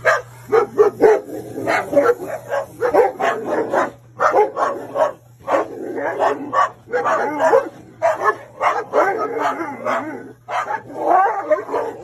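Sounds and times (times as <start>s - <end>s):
dog barking rapidly: 0.0s - 12.0s.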